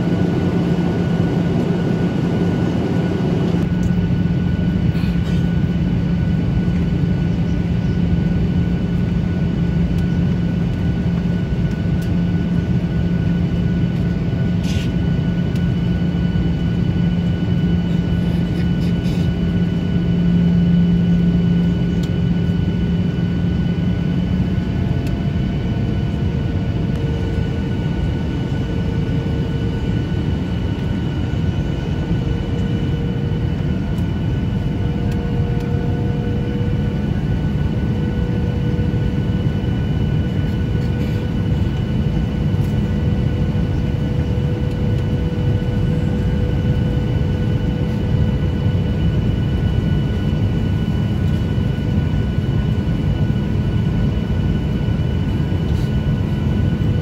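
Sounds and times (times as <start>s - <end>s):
jet engine rumble: 0.0s - 57.0s
low hum: 0.0s - 57.0s.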